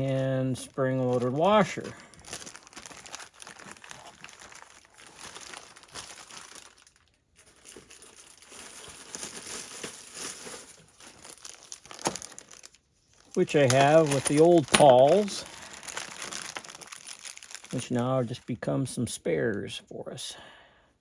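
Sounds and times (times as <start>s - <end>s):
plastic bag crinkling: 0.5s - 18.6s.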